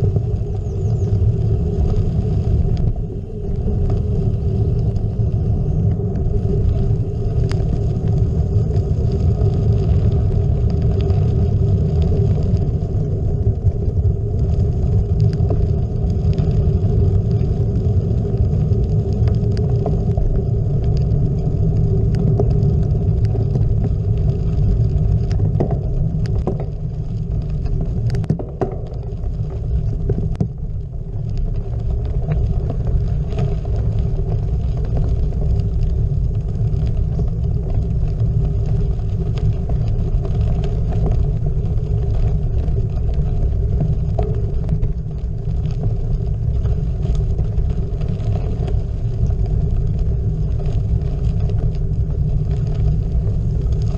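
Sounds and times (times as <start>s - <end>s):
tyres rumbling on gravel: 0.0s - 53.9s
wind on microphone: 0.0s - 53.9s.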